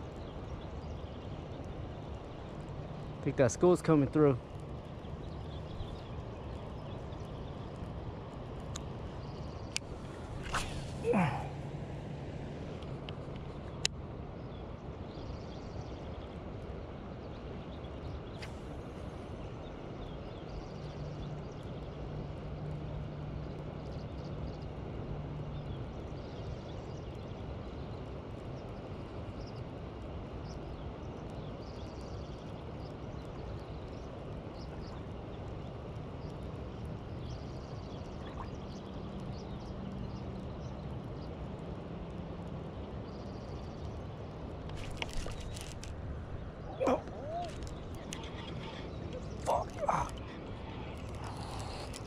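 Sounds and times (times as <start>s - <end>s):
riverside ambience: 0.0s - 52.0s.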